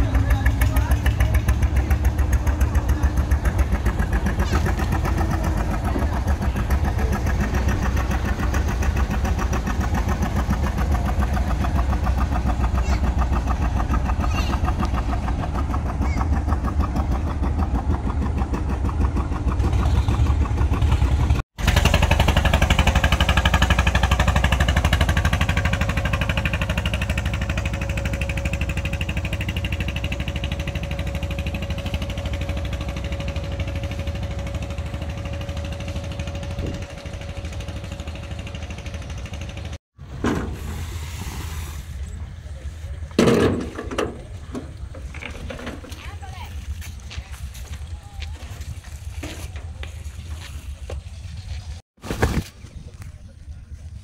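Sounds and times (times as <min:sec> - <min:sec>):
boat engine running: 0:00.0 - 0:51.8.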